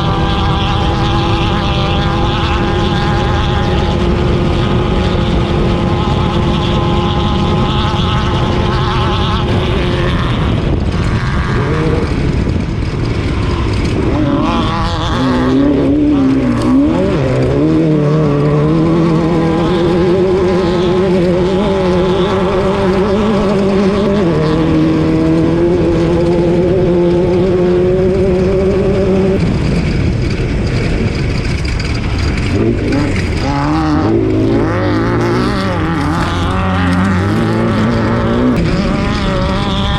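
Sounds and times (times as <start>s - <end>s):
race car engine running hard: 0.0s - 39.9s
road and wind noise: 0.0s - 39.9s.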